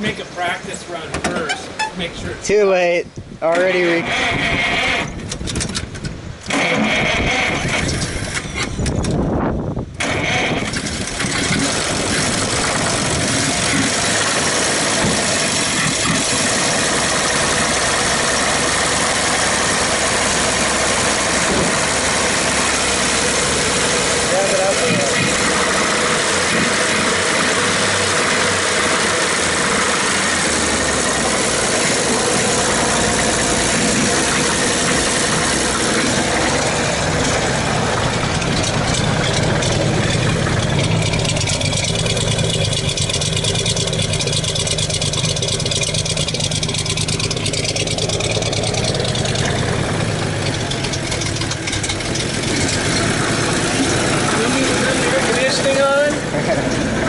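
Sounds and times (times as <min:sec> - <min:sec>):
truck engine idling: 0:04.1 - 0:57.0
exhaust pulse: 0:09.8 - 0:57.0.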